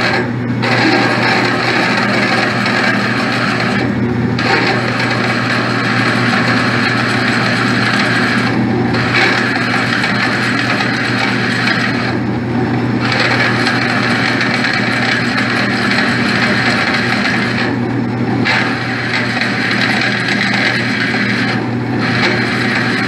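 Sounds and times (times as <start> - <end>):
drill grinding metal: 0.0 - 23.0
lathe motor hum: 0.0 - 23.0.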